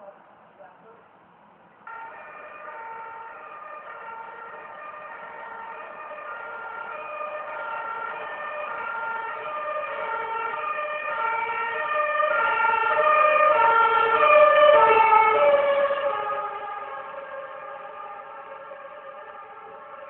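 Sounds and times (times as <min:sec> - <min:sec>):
two-tone siren: 0:01.9 - 0:20.0.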